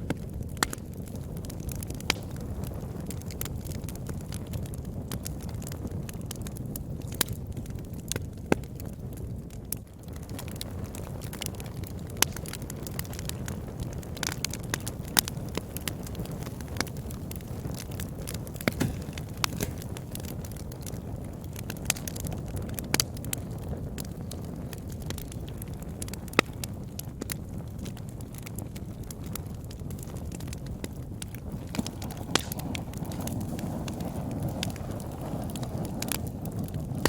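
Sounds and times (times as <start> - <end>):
fire burning in fireplace: 0.0 - 37.0
logs popping and crackling: 0.0 - 37.0.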